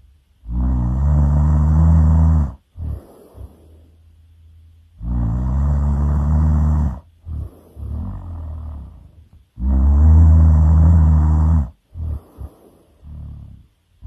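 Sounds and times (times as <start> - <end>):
soft breathing: 0.0 - 14.0
loud rasping snores: 0.4 - 3.6, 5.0 - 13.7.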